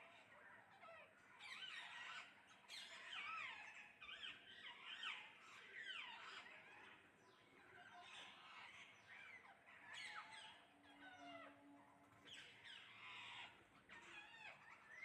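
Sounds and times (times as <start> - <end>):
faint parrots screeching: 0.0 - 15.0.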